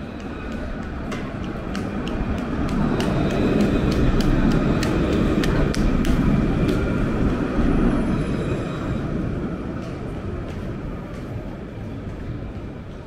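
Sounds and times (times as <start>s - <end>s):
electric tram passing on rails: 0.0s - 13.0s.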